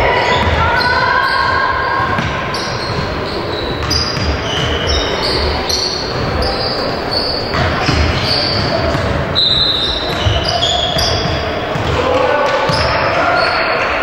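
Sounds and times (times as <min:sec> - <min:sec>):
sneakers squeaking: 0:00.0 - 0:14.0
voices in a hall: 0:00.0 - 0:14.0.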